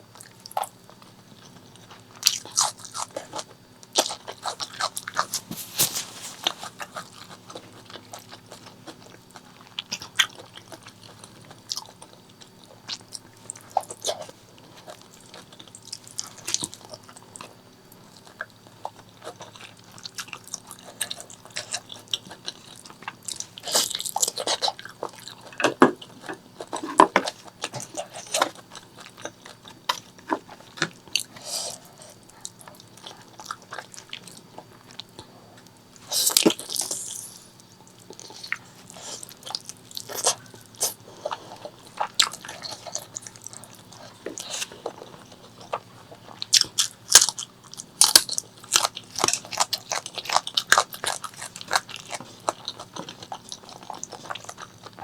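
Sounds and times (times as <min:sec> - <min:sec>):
food crunching: 0:00.1 - 0:55.0
person chewing food: 0:00.1 - 0:55.0.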